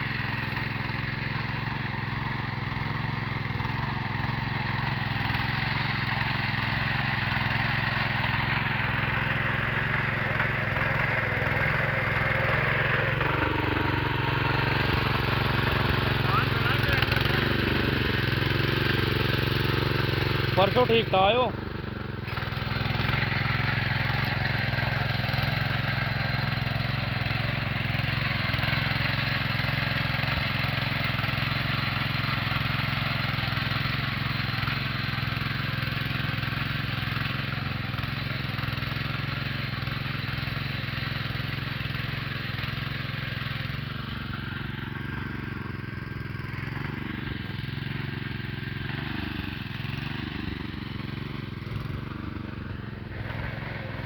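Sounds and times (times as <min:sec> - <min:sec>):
rattle of tiller blades: 0:00.0 - 0:54.0
tiller engine drone: 0:00.0 - 0:54.0.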